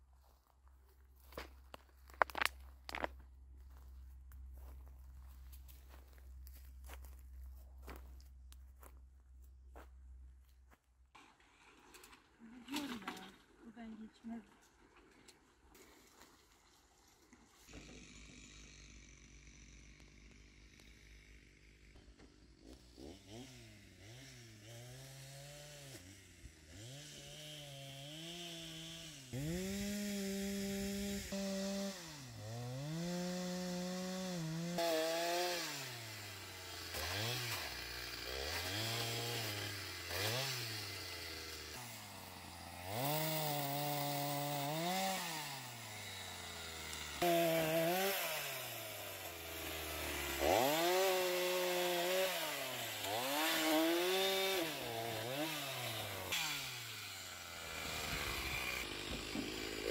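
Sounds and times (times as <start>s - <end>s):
chainsaw cutting and revving: 1.2s - 9.0s, 11.2s - 14.4s, 16.8s - 59.9s.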